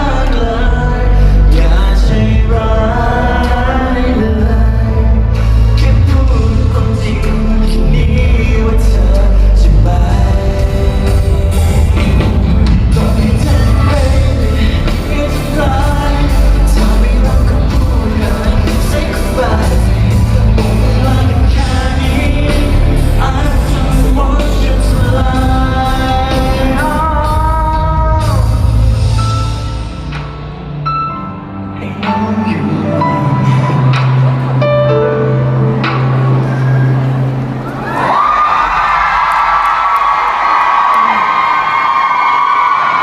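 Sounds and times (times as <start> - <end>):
lead vocal singing: 0.0 - 29.7, 31.6 - 43.0
live pop-rock band playing: 0.0 - 38.2.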